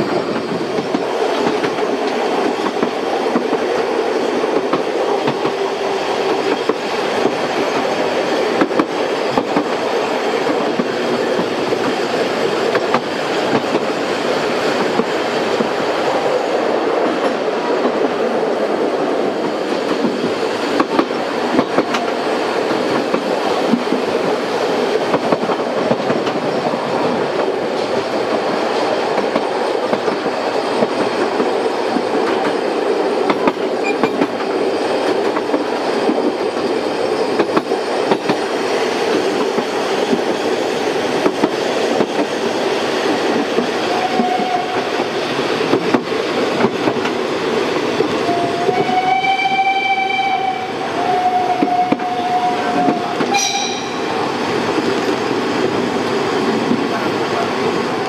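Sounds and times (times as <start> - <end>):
train carriage rolling rattle: 0.0 - 49.0, 51.5 - 58.0.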